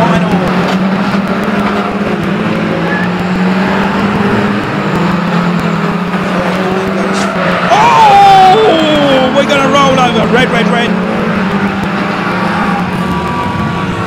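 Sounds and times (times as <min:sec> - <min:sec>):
racing car engines droning: 0:00.0 - 0:14.0.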